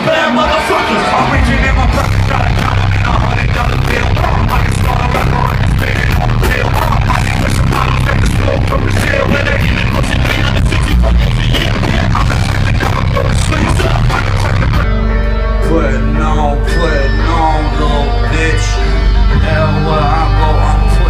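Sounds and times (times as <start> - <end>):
live concert music over pa: 0.0 - 21.0.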